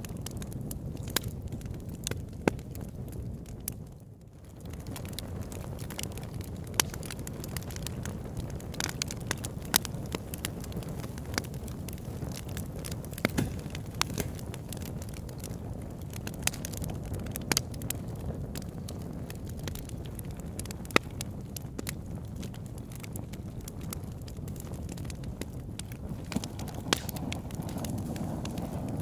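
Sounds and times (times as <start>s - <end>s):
fire low rumble: 0.0s - 29.0s
log fire crackling and popping: 0.0s - 29.0s.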